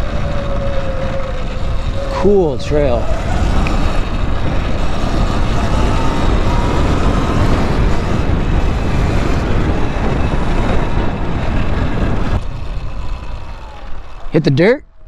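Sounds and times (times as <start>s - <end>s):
electric motor whine: 0.0s - 14.4s
wind rumble on microphone: 0.0s - 15.0s.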